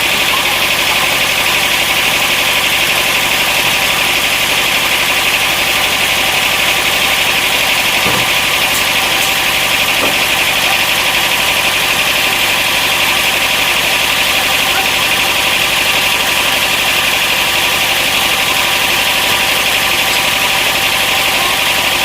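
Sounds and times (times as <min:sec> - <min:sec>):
high-pitched machinery hum: 0:00.0 - 0:22.0
sawmill engine running: 0:00.0 - 0:22.0.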